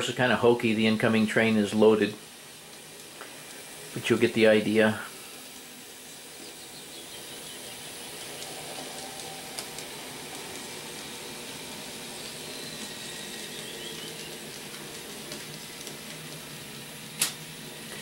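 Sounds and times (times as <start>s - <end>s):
faint high whine: 0.0s - 18.0s
model train running on track: 0.0s - 18.0s.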